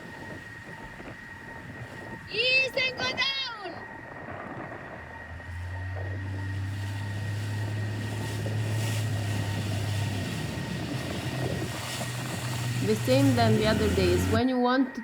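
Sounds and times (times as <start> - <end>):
motorboat engine humming: 0.0 - 14.5
water noise: 0.0 - 14.5
wind: 0.0 - 15.0.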